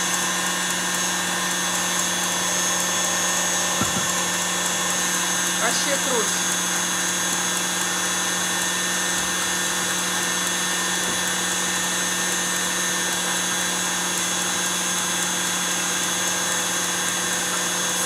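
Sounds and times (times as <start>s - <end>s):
electric mixer whining: 0.0s - 18.0s.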